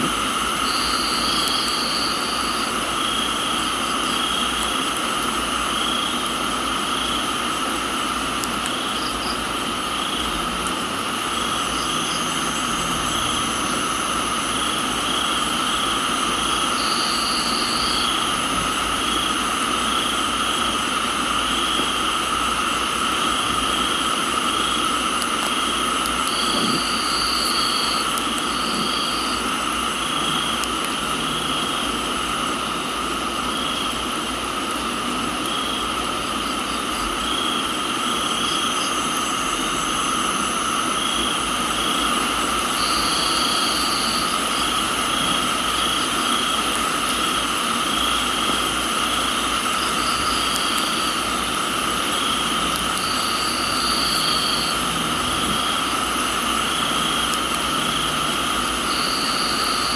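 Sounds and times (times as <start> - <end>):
crickets and insects chirring: 0.0 - 59.9
rain hissing: 0.0 - 59.9.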